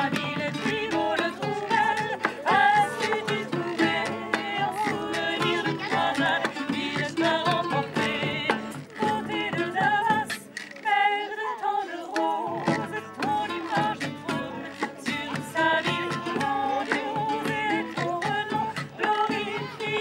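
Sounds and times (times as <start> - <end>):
hand drums beating: 0.0 - 10.6, 12.1 - 20.0
women singing: 0.0 - 20.0.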